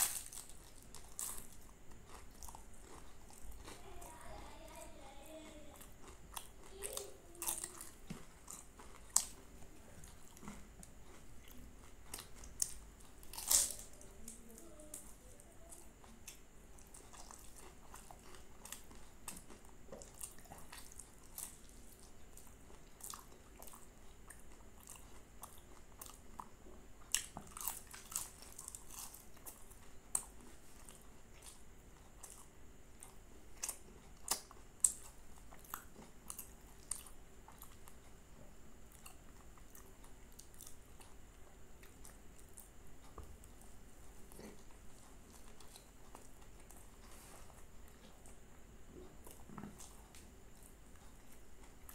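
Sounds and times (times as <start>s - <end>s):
person chewing crispy pastry: 0.0s - 51.9s.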